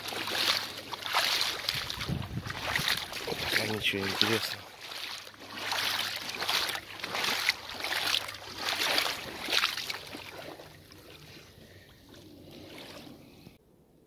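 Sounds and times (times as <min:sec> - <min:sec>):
footsteps sloshing through water: 0:00.0 - 0:13.6.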